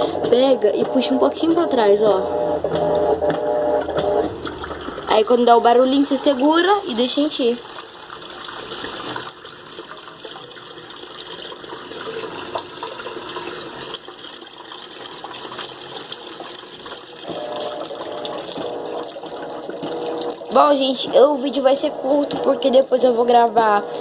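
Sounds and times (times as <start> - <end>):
washing machine filling with water: 0.0 - 24.0.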